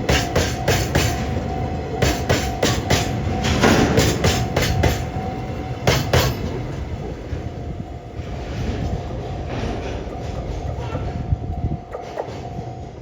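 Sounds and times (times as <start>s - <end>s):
train wheels clacking over rail joints: 0.0s - 7.5s, 8.2s - 13.0s
train rolling rumble: 0.0s - 13.0s.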